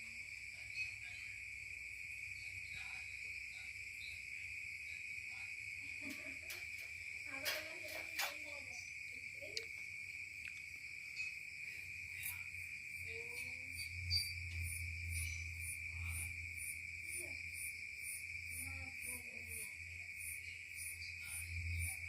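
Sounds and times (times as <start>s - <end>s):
insects trilling: 0.0s - 22.0s
pulsing high insect trill: 0.0s - 22.0s.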